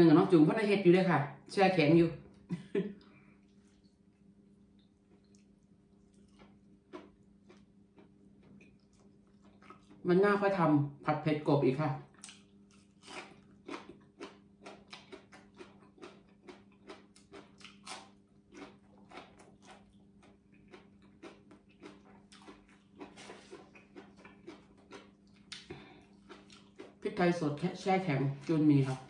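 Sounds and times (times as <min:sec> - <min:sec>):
faint steady hum: 0:00.0 - 0:29.0
crunchy chewing of vegetables: 0:03.1 - 0:10.1, 0:12.0 - 0:29.0.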